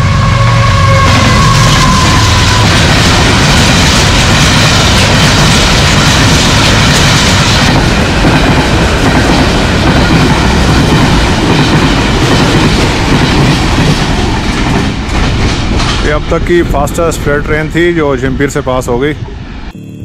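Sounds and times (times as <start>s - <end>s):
train wheels on rails: 0.0s - 19.7s.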